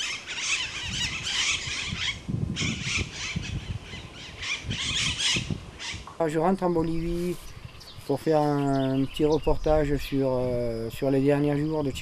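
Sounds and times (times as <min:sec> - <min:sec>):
birds squealing calls: 0:00.0 - 0:11.8.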